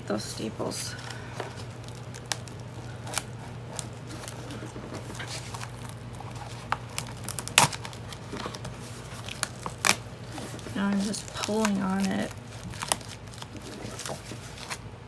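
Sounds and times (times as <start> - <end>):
paper crinkling: 0.6 - 15.0.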